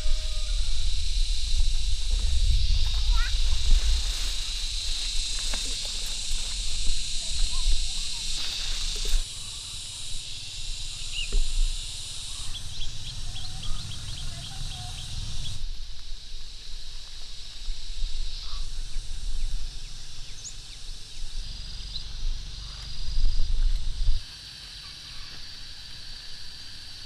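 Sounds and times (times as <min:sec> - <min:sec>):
high insect buzz: 0:00.0 - 0:27.0.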